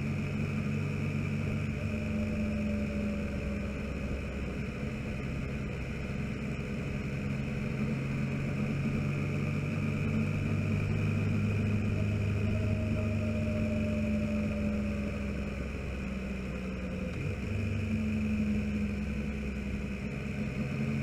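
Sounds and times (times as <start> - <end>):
motorcycle engine running: 0.0 - 21.0
wind: 0.0 - 21.0.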